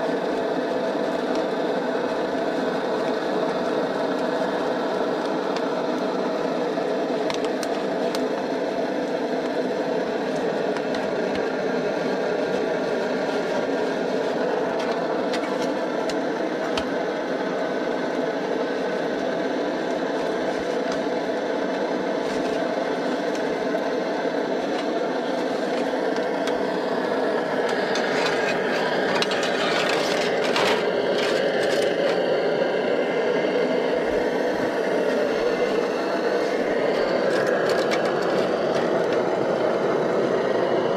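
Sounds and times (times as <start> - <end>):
camping stove burning: 0.0 - 40.9.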